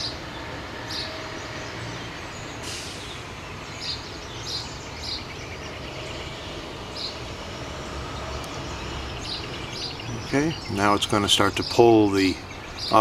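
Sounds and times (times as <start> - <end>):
small bird chirping: 0.0 - 13.0
steady background noise: 0.0 - 13.0.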